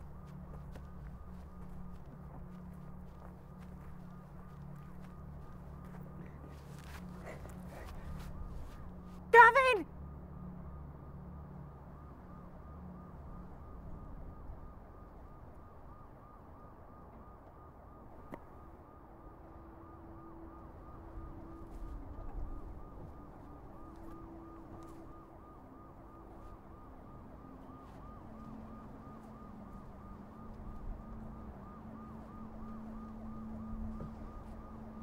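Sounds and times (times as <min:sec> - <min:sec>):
low steady tones: 0:00.0 - 0:35.0
warbling siren: 0:00.0 - 0:35.0.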